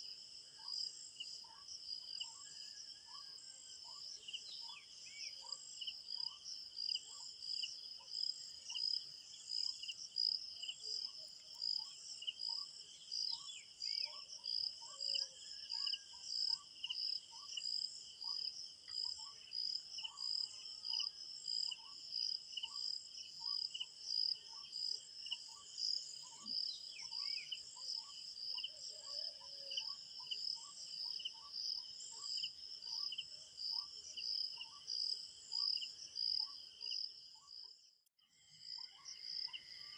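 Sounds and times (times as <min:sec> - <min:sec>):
crickets chirping: 0:00.0 - 0:37.8.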